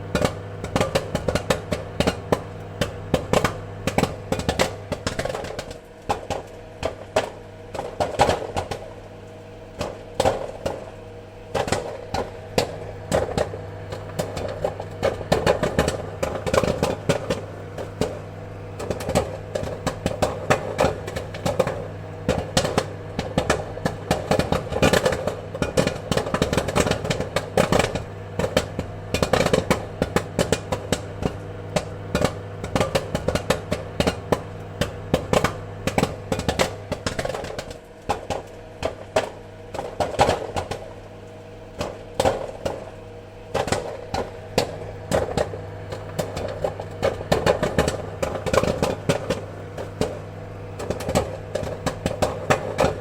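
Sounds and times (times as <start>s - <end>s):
popcorn popping: 0.0s - 53.0s
steady low hum: 0.0s - 53.0s.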